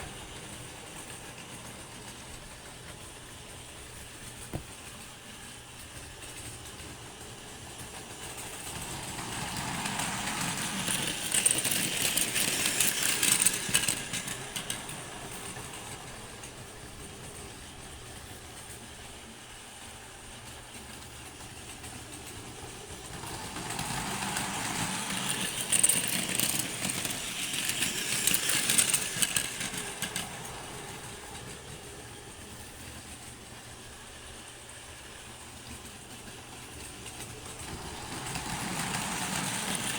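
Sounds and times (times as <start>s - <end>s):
electric trains passing: 0.0s - 39.9s
wheels clattering on rails: 0.0s - 39.9s.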